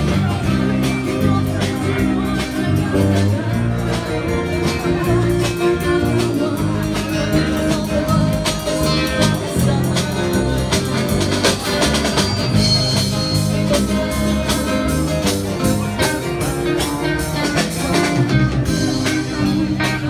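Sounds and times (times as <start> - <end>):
drums keeping steady beat: 0.0 - 20.0
live band playing guitar music: 0.0 - 20.0.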